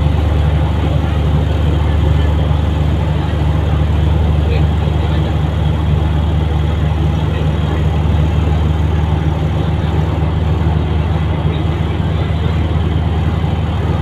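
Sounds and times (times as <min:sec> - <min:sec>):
train interior drone: 0:00.0 - 0:14.0.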